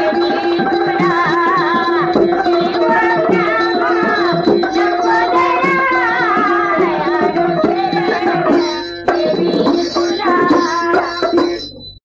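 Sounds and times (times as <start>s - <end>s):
hand drum beat: 0.0s - 11.9s
wavering melodic line: 0.0s - 12.0s.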